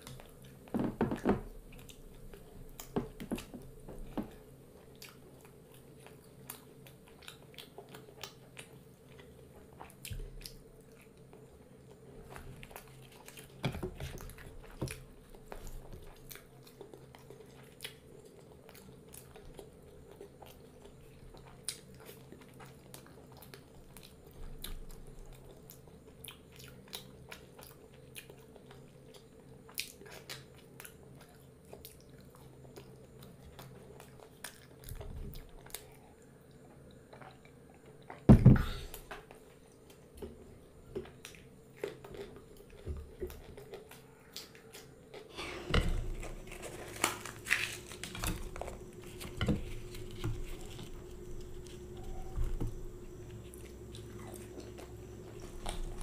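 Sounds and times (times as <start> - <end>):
person chewing with crunches: 0.0 - 56.0.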